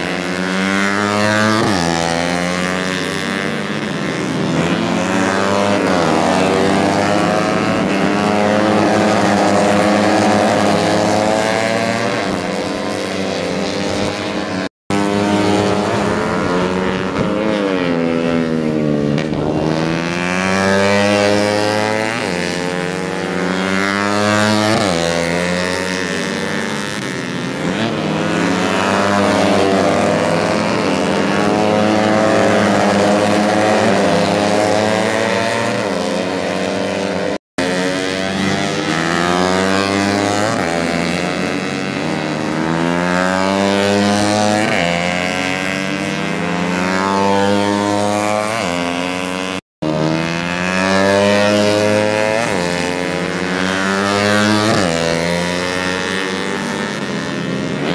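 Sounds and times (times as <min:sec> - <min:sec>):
racing motorcycles at high revs: 0:00.0 - 0:57.9.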